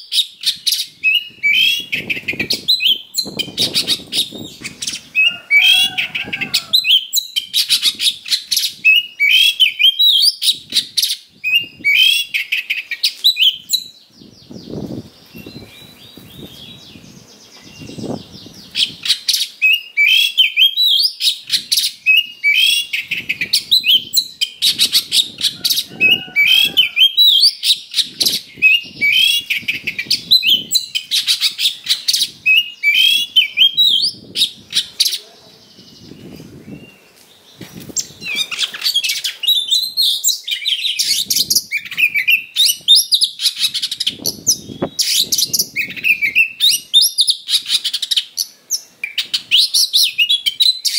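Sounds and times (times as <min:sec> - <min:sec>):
magpie-robin singing: 0:00.0 - 0:50.9.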